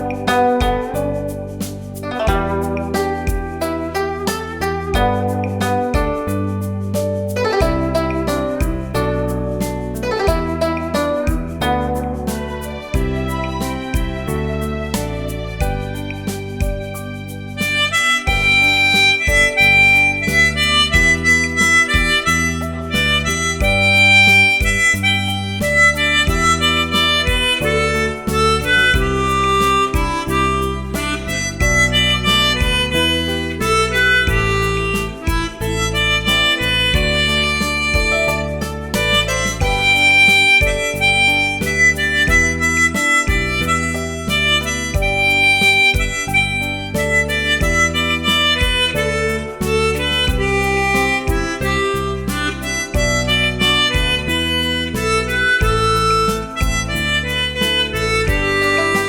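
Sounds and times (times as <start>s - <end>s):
bass line and steady beat: 0.0s - 59.0s
harmonica melody: 0.0s - 59.0s.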